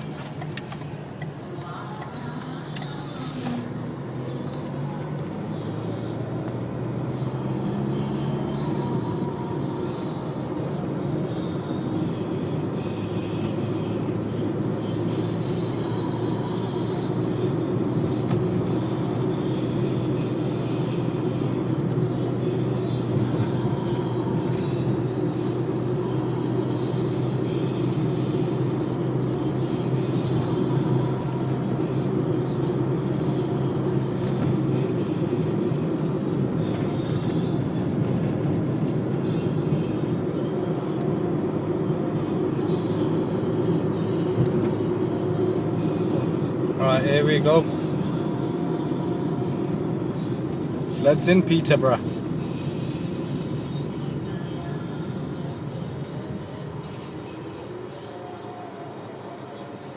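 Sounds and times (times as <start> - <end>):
vehicle rumble: 0.0 - 59.9.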